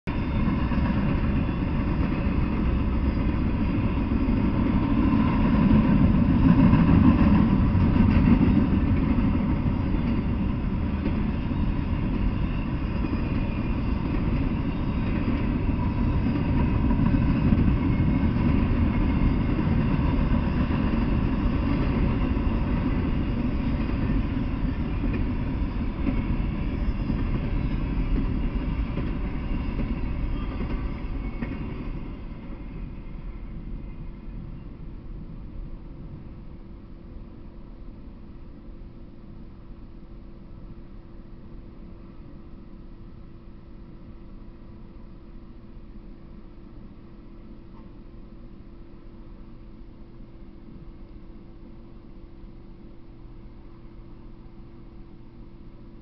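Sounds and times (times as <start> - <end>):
train wheels rumbling on rail: 0.1 - 54.4.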